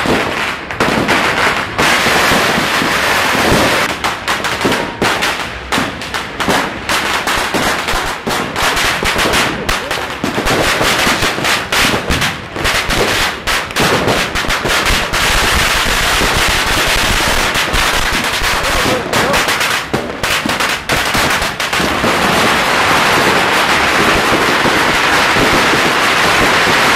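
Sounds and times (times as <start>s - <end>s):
firecrackers banging: 0.0s - 26.9s.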